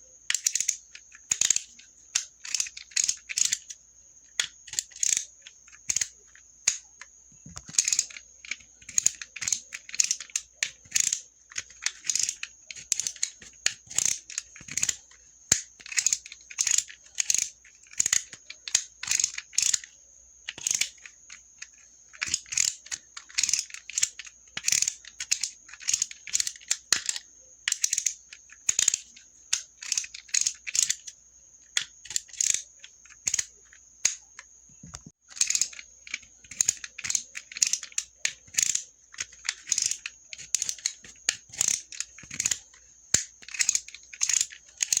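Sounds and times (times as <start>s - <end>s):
utility knife clicking and scratching: 0.3s - 34.5s, 35.3s - 45.0s.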